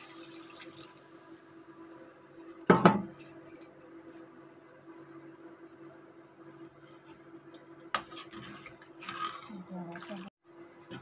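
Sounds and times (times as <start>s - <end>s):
induction cooktop hum: 0.0s - 11.0s.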